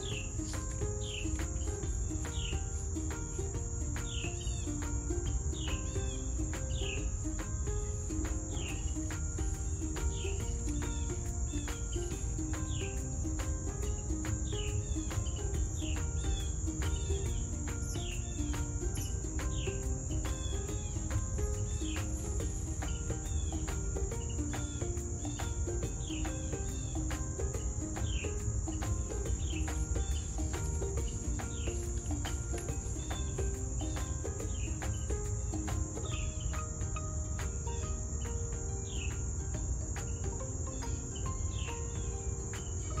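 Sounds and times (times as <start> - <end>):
bird chirps: 0.0 - 7.5, 8.2 - 39.3, 39.9 - 43.0
crickets trilling: 0.0 - 43.0.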